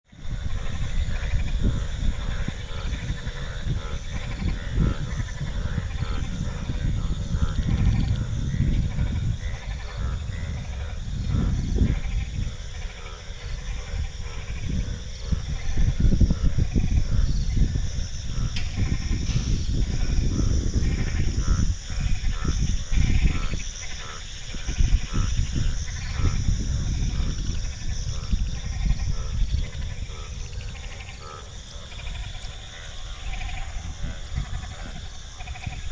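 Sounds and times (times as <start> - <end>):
frogs croaking: 0.1 - 35.9.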